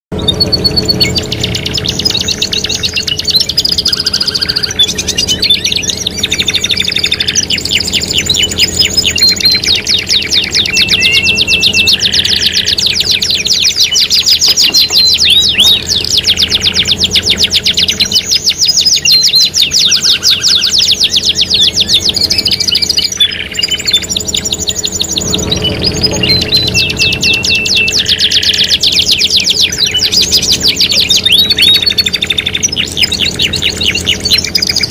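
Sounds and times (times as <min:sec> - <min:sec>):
canaries singing trills: 0:00.1 - 0:34.9.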